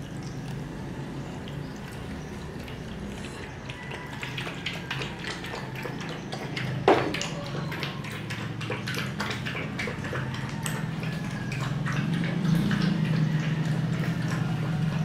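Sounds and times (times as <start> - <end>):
puppies lapping milk: 0.0 - 15.0.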